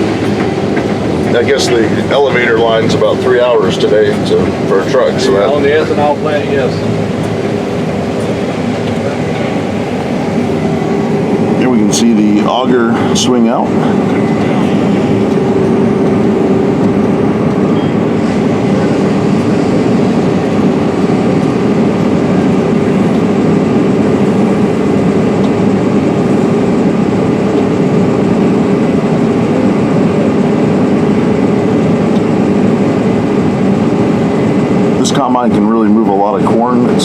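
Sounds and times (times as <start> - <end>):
combine harvester mechanical drone: 0.0 - 37.0.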